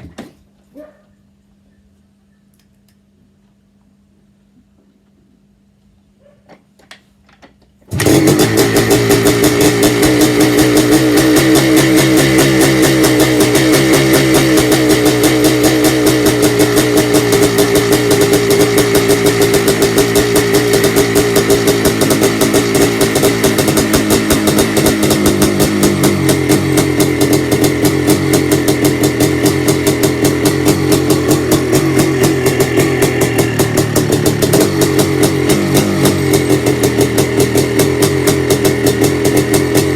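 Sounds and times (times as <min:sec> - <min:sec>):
dirt bike engine running: 0:07.9 - 0:39.9.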